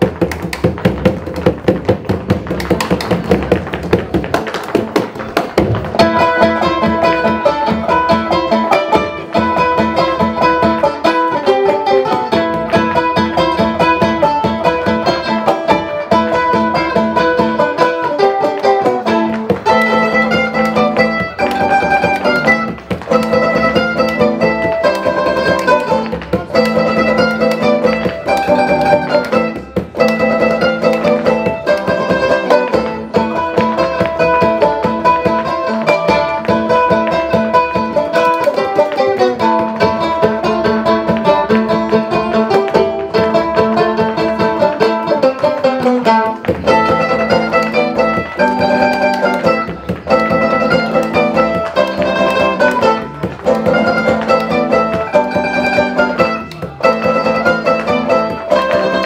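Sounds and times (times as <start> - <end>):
folk band plucked strings: 0.0 - 59.0.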